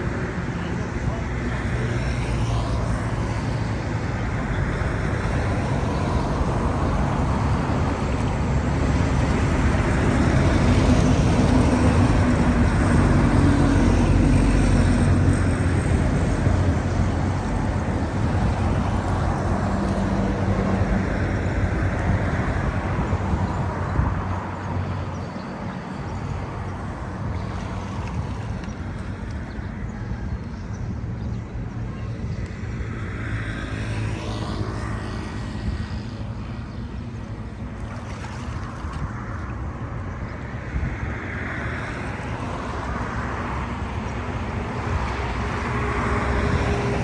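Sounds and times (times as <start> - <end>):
road traffic: 0.0 - 47.0
vehicle engine hum: 0.0 - 47.0.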